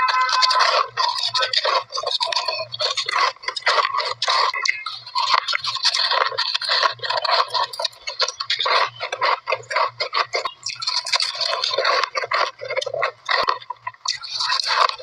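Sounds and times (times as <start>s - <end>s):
ice crunching while chewed: 0.0s - 15.0s.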